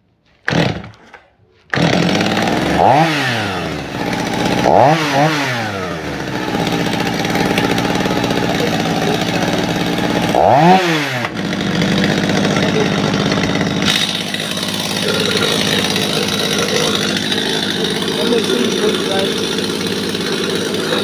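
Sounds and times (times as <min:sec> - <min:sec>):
chainsaw starting and idling: 0:00.4 - 0:21.0
chainsaw throttle blips: 0:00.4 - 0:21.0.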